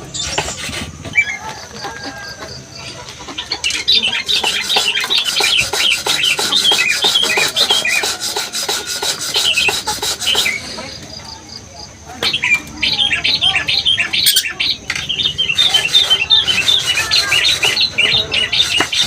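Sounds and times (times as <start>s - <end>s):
lorikeet chattering: 2.0s - 19.0s.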